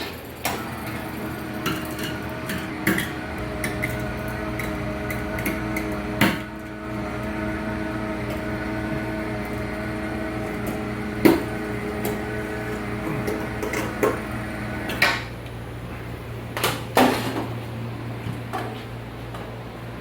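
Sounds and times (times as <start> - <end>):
winch motor whining: 0.0 - 16.2.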